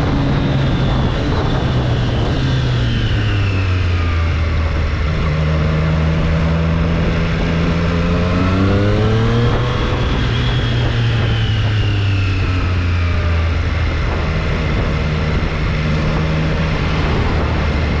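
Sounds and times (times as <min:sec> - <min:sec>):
motorcycle engine revving: 0:00.0 - 0:18.0
steady rush of noise: 0:00.0 - 0:18.0.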